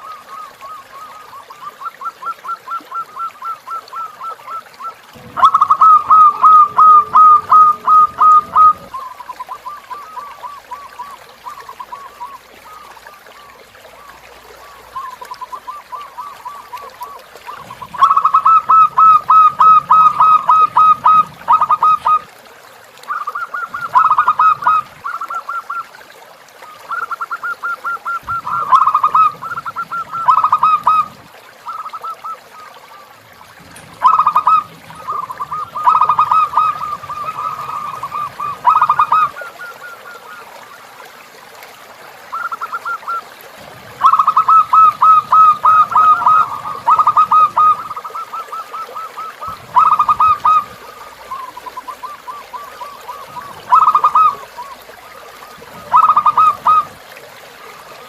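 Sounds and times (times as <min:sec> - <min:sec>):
dove cooing: 0:00.0 - 0:22.3, 0:23.1 - 0:25.8, 0:26.8 - 0:40.4, 0:43.9 - 0:54.8, 0:55.4 - 0:57.0.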